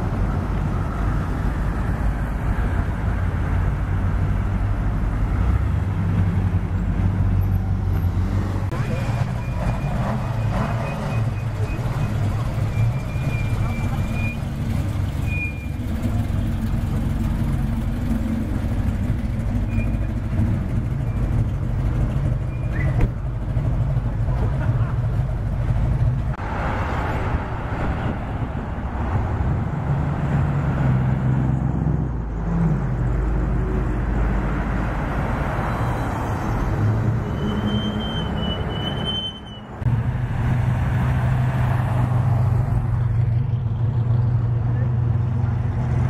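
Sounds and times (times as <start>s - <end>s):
car engine rumbling: 0.0s - 46.0s
cars driving past: 0.0s - 46.0s.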